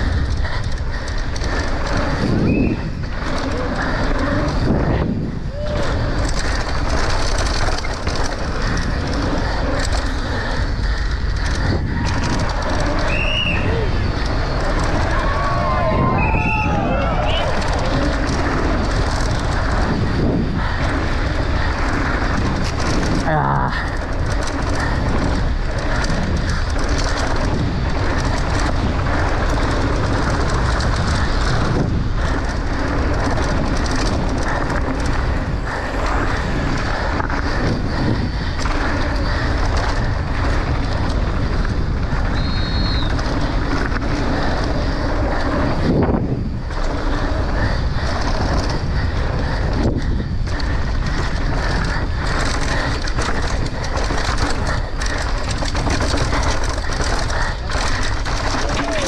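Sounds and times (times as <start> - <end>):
bike shaking over bumps: 0.0 - 59.0
bike tyres rumbling on gravel: 0.0 - 59.0.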